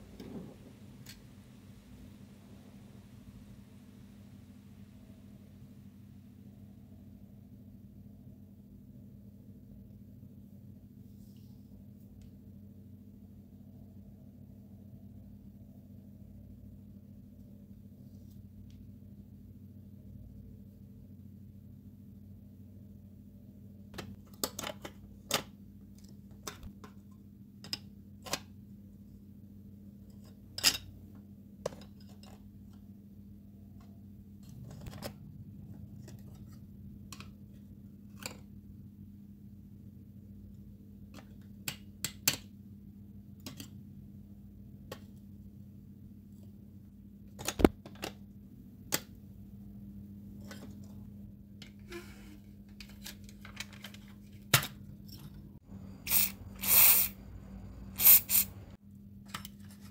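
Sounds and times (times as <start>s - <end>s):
steady low hum: 0.0s - 24.0s, 25.5s - 59.8s.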